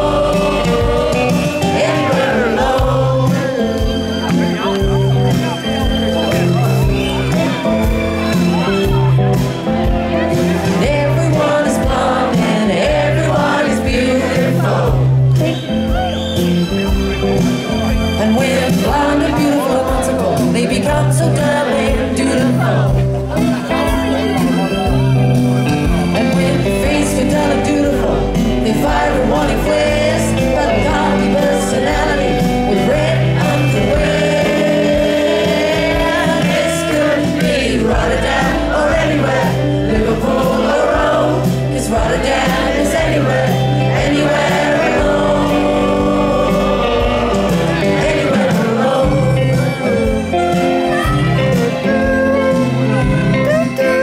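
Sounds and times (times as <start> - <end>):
person singing: 0.0 - 4.8, 10.2 - 15.6, 18.2 - 54.0
drums: 0.0 - 54.0
electric guitar: 0.0 - 54.0
keyboard: 0.0 - 54.0.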